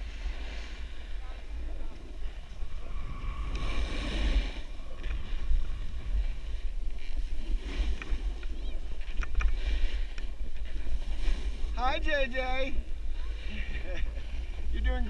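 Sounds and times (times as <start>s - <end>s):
skis scraping packed snow: 0.0s - 15.0s
wind buffeting microphone: 0.0s - 15.0s.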